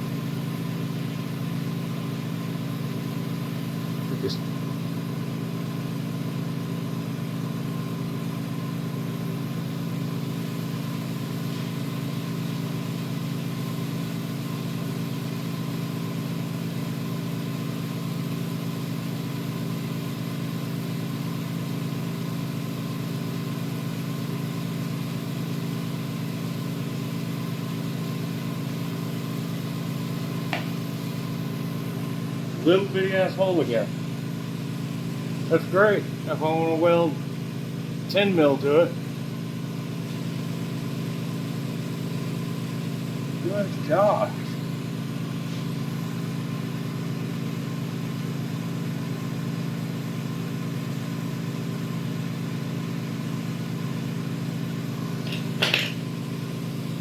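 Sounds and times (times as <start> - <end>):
motor blower droning hum: 0.0 - 57.0.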